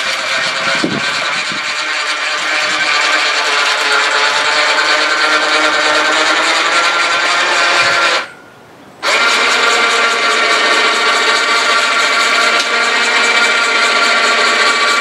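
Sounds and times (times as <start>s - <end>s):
electric winch motor running: 0.0s - 8.4s, 9.0s - 15.0s.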